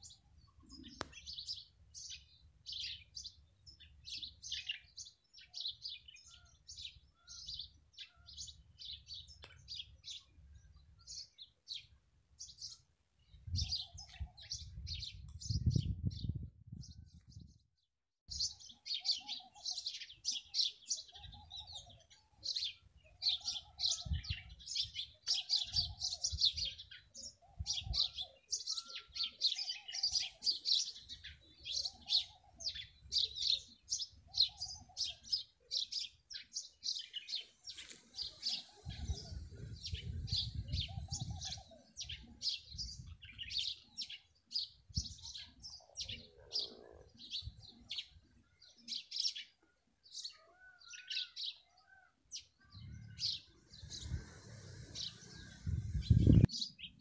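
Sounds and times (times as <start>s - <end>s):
small birds chirping: 0.0s - 17.7s, 18.3s - 57.0s.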